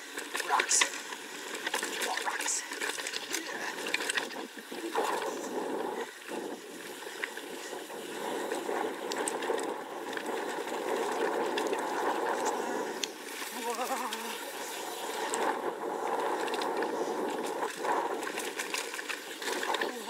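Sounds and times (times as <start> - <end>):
bike clicks and rattles: 0.0 - 2.1, 2.7 - 4.7, 5.5 - 20.0
tyre and wind rush: 0.0 - 20.0.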